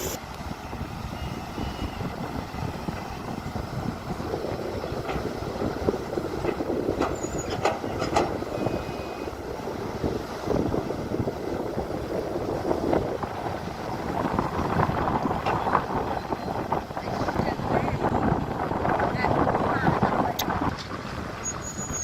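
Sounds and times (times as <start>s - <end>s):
excavator diesel engine: 0.0s - 22.0s.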